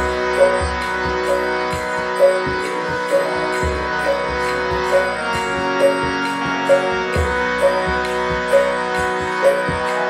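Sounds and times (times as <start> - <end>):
droning chord: 0.0 - 10.0
drum strokes: 0.0 - 10.0.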